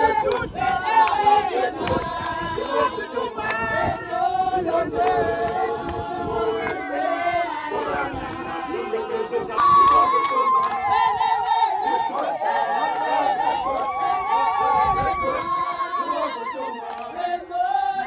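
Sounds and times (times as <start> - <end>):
women singing and chanting: 0.0 - 18.0.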